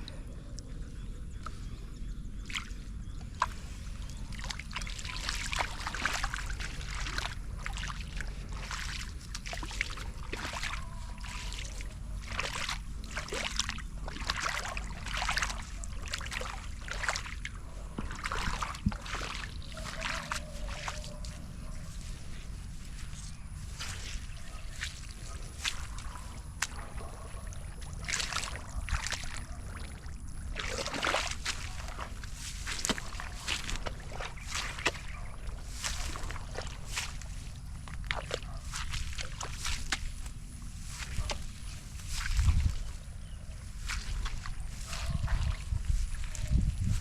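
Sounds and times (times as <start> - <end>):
steady low rumble: 0.0 - 47.0
floodwater splashing: 2.4 - 47.0.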